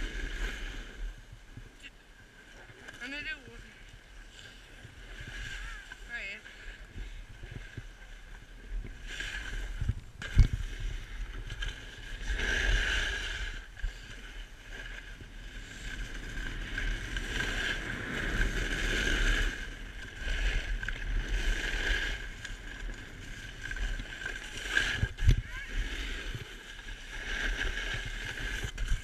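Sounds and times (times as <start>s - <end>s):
wind rumbling on microphone: 0.0s - 29.0s
snowboard scraping over snow: 4.2s - 29.0s.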